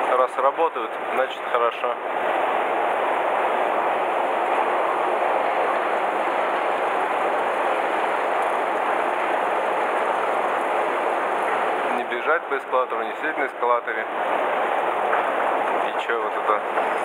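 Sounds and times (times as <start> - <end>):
escalator running: 1.0 - 17.0.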